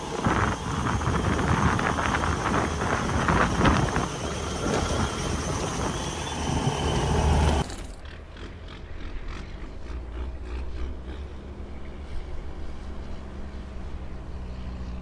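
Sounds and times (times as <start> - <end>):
loud rough truck noise: 0.0 - 15.0
truck engine hum: 0.0 - 15.0.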